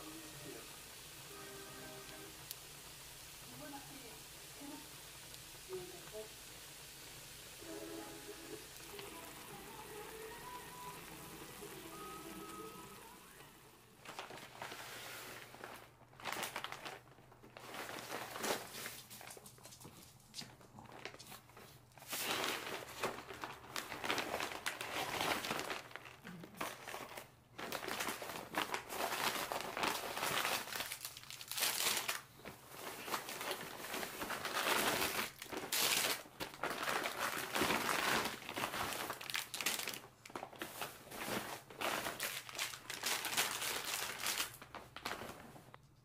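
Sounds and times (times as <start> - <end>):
crinkling handling noise: 6.9 - 46.0.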